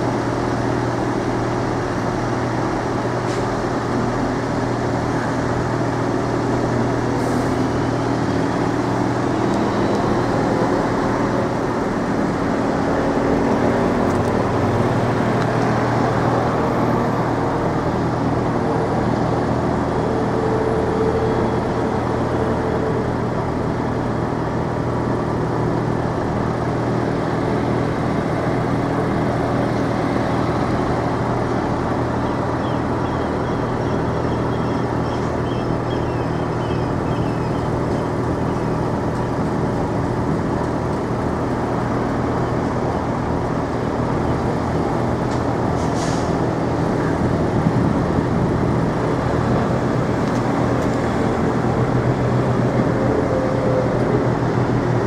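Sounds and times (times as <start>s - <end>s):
traffic noise: 0.0s - 55.0s
vehicle engines idling: 0.0s - 55.0s.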